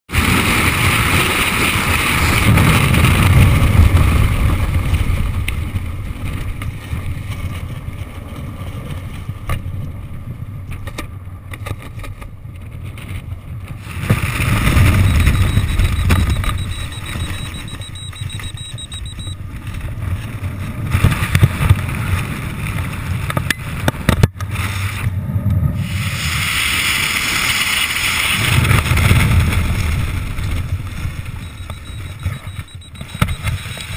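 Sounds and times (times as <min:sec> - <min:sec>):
wind rushing over microphone: 0:00.1 - 0:33.9.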